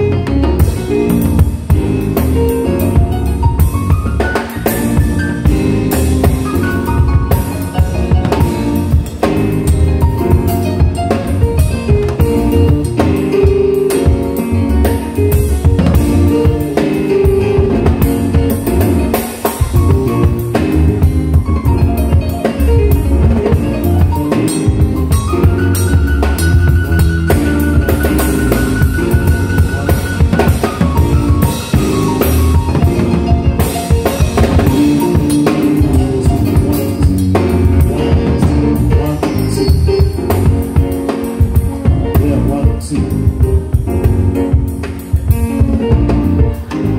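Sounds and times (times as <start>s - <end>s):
band music: 0.0s - 46.9s
drum kit beat: 0.0s - 46.9s.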